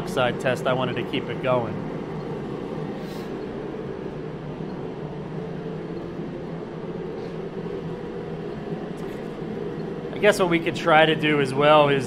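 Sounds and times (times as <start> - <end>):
forced-air heater running: 0.0 - 12.0.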